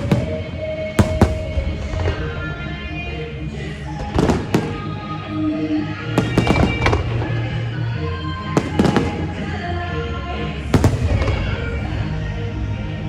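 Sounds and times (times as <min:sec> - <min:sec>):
fireworks bangs and crackles: 0:00.0 - 0:13.0
music with sustained notes: 0:00.0 - 0:13.0.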